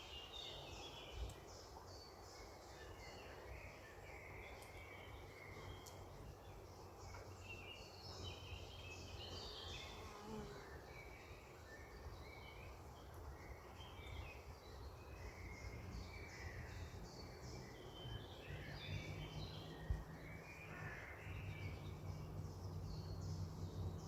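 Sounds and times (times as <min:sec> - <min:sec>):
wild birds chirping: 0:00.0 - 0:24.0.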